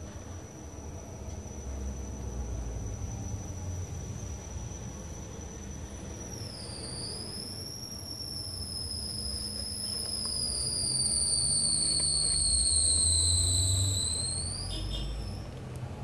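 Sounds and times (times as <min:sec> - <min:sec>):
high-pitched whistling tone: 0:01.4 - 0:15.6.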